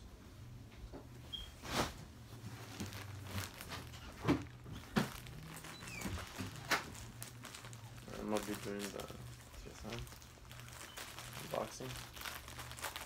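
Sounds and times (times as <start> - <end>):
faint low hum: 0.0 - 13.0
plastic bag crinkling: 1.6 - 13.0.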